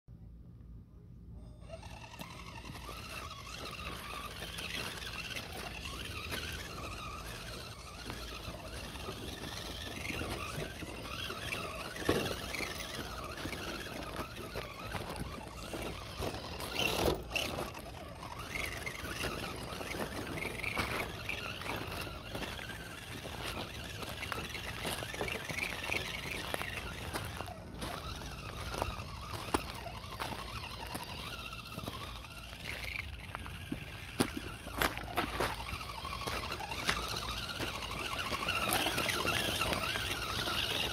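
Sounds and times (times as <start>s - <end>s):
electric motor whine: 1.4s - 40.9s.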